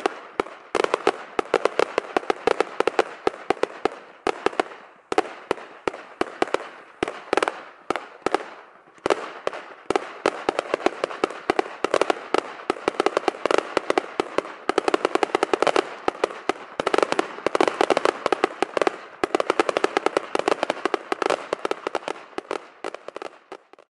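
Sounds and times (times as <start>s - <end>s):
fireworks bangs: 0.0s - 23.9s.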